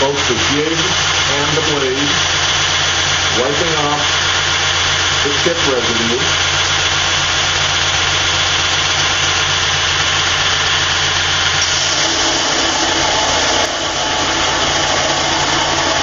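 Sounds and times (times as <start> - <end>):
belt grinder motor hum: 0.0 - 16.0.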